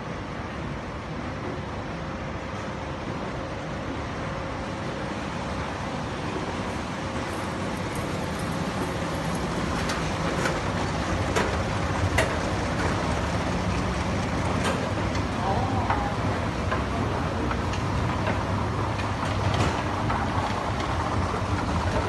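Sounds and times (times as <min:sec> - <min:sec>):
escalator rumble and hum: 0:00.0 - 0:22.0.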